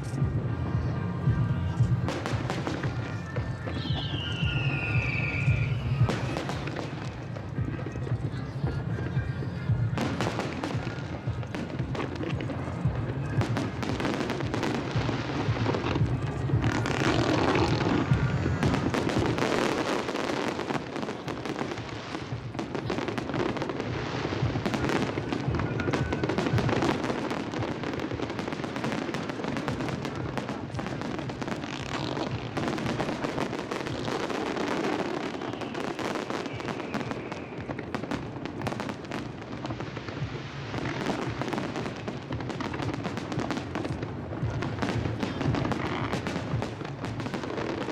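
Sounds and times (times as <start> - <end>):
fireworks booms: 0.0 - 47.9
fireworks crackling and popping: 0.0 - 47.9.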